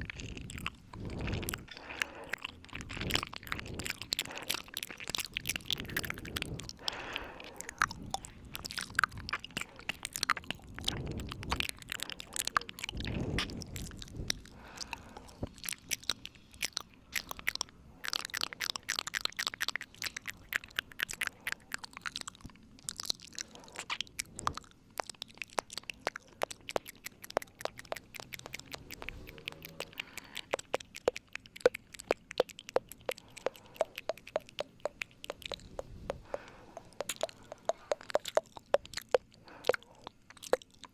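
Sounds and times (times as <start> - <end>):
wet mouth clicks and smacks: 0.0 - 40.9.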